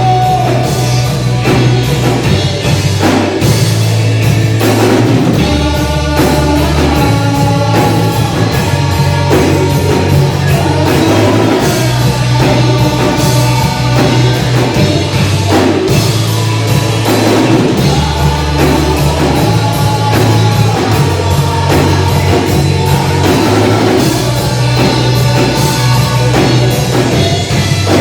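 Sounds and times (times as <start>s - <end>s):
bass guitar low notes: 0.0s - 28.0s
rock band playing live: 0.0s - 28.0s.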